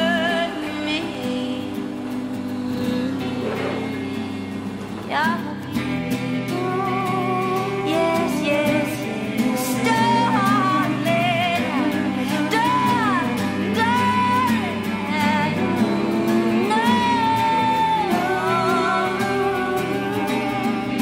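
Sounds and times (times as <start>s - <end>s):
guitar accompaniment: 0.0s - 21.0s
wordless singing voice: 0.0s - 21.0s.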